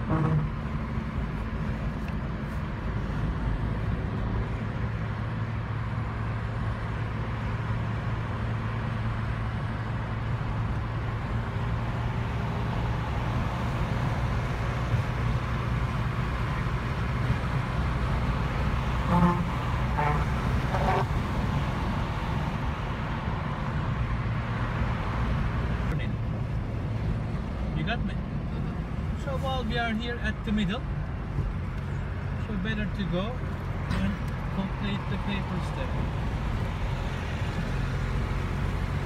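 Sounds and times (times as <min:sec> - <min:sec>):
car engine and tyres drone: 0:00.0 - 0:39.0.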